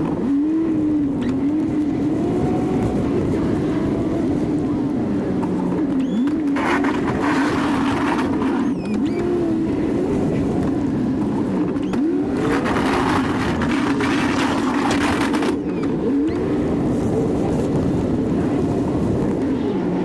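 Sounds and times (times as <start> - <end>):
pickup engine revving under load: 0.0 - 20.0.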